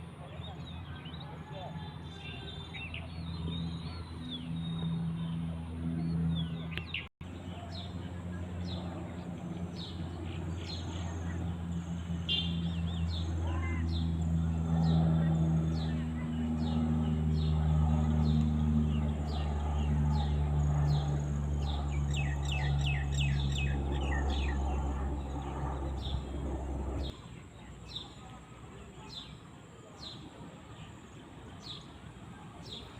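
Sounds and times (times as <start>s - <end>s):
low motor hum: 0.0s - 27.2s
birds chirping: 0.0s - 32.9s.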